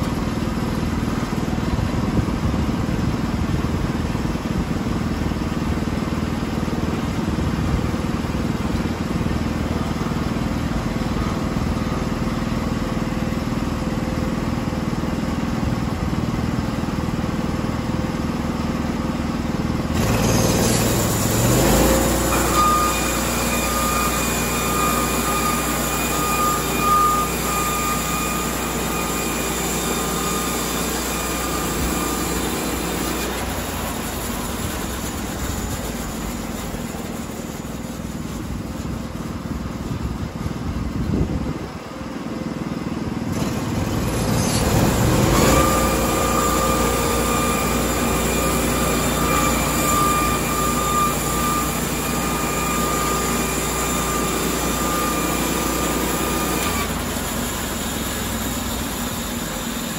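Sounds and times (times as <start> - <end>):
gas engine running: 0.0 - 59.9
saw blade whining: 0.0 - 59.9.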